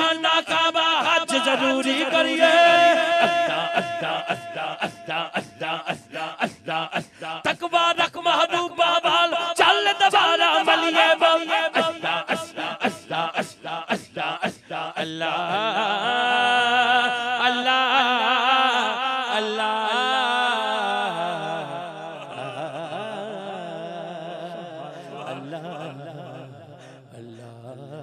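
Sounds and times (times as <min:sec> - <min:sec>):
man singing ornamented melody: 0:00.0 - 0:28.0
men chanting through pa: 0:00.0 - 0:28.0.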